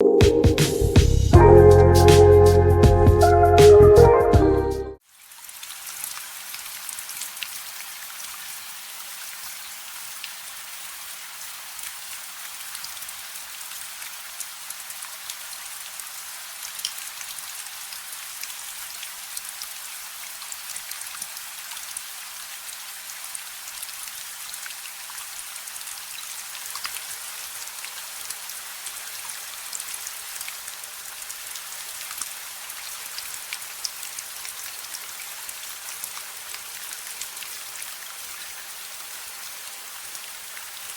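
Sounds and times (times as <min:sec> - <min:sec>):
steady rain falling: 0:05.0 - 0:40.9.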